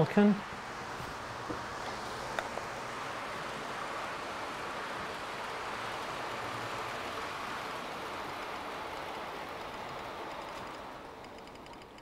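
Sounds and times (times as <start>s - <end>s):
model train whirring rumble: 0.0s - 12.0s.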